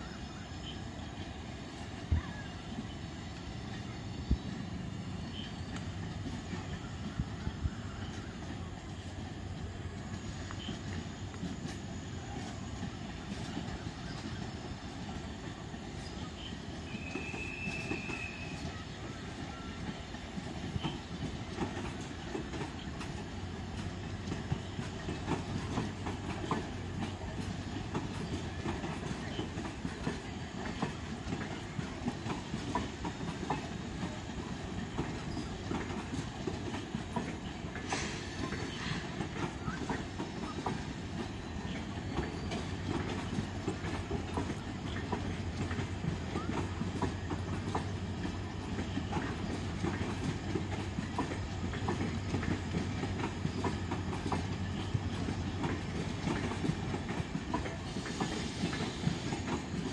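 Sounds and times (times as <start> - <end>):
low train rumble: 0.0 - 59.9
train wheels clicking over rail joints: 1.7 - 59.9.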